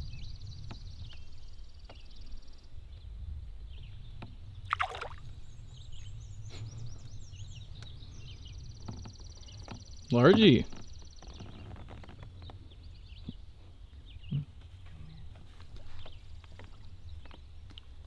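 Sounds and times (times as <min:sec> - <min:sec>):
wind on microphone: 0:00.0 - 0:17.6.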